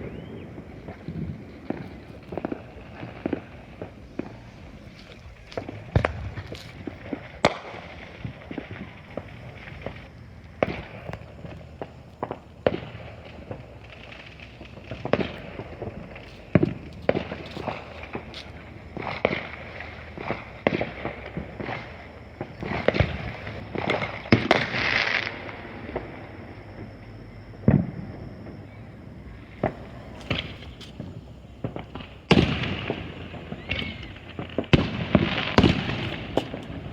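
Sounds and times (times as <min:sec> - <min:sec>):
fireworks bangs and pops: 0:00.0 - 0:27.0, 0:29.4 - 0:36.9
fireworks crackling and hiss: 0:00.0 - 0:36.9.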